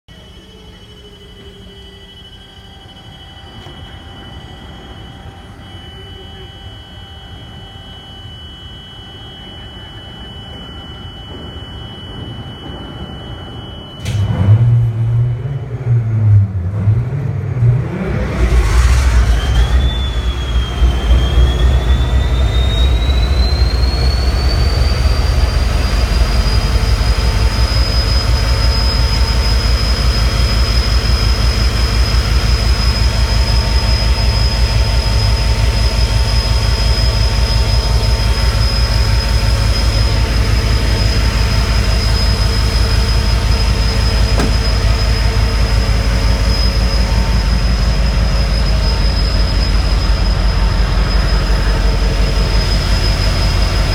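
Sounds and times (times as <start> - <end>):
diesel locomotive engine running: 0.0 - 53.9
turbocharger whine: 0.0 - 53.9.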